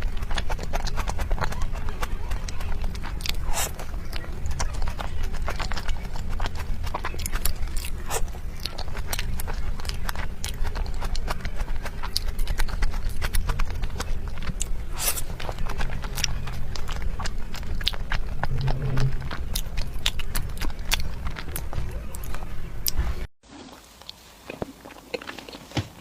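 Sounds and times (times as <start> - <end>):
chewing with wet mouth clicks: 0.0 - 23.2, 24.0 - 25.8
steady low hum: 0.0 - 23.3.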